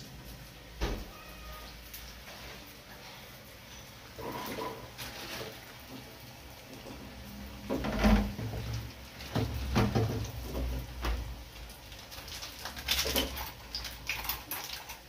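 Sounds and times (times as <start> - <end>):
oil frying: 0.0 - 15.0.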